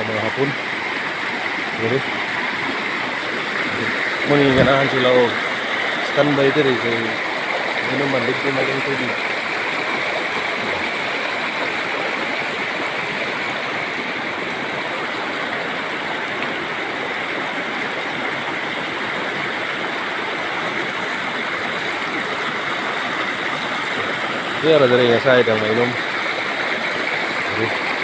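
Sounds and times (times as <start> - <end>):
spring water flowing: 0.0 - 28.0.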